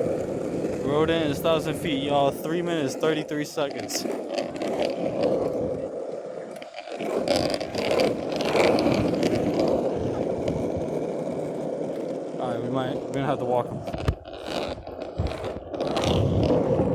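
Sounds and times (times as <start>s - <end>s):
wheels rolling over rough road: 0.0s - 16.9s.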